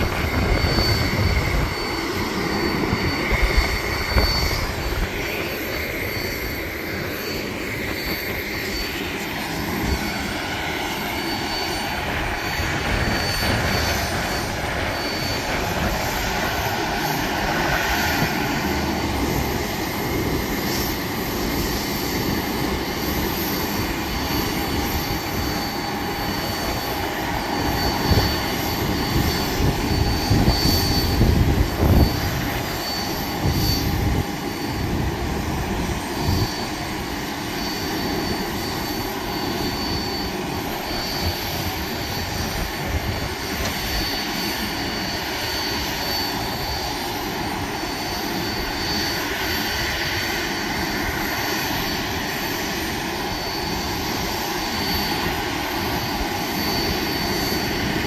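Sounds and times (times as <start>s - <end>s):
wind buffeting microphone: 0.0s - 37.4s, 38.0s - 47.8s
jet airliners taxiing: 0.0s - 58.0s
thin high whine: 0.0s - 58.0s.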